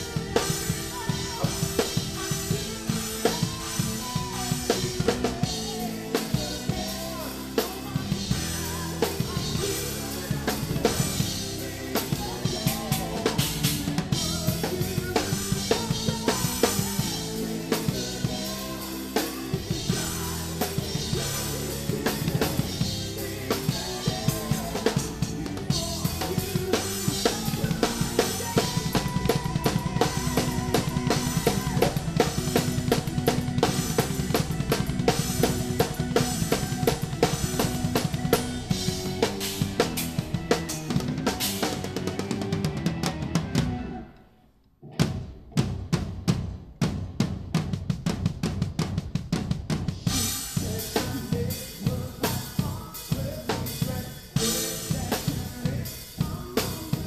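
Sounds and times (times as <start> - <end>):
drum kit playing: 0.0 - 44.2, 44.8 - 57.0
progressive metal band: 0.0 - 44.2, 44.9 - 57.0.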